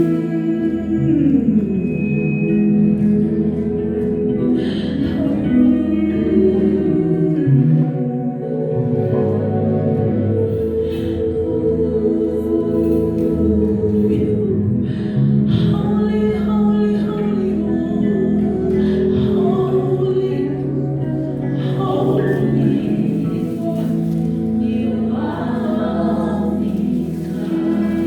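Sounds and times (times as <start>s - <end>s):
group of voices singing: 0.0s - 28.0s
sustained keyboard chords: 0.0s - 28.0s.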